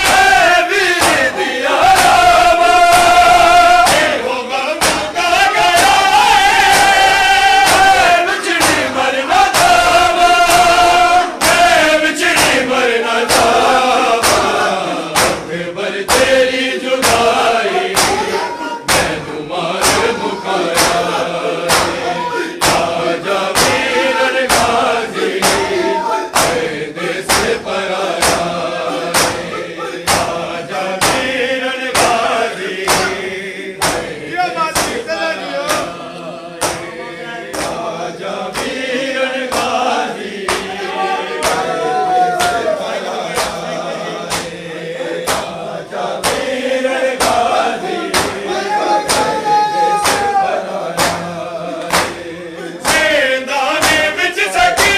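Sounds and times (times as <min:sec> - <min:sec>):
hands slapping chests: 0:00.0 - 0:35.1, 0:36.6 - 0:54.9
men chanting in unison: 0:00.0 - 0:54.9.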